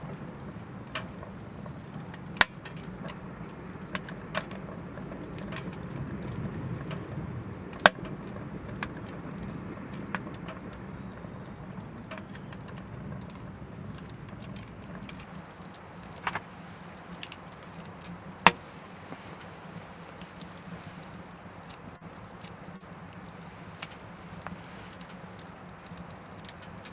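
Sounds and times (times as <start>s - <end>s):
firewood crackling: 0.0s - 26.9s
low rumble of fire: 0.0s - 26.9s.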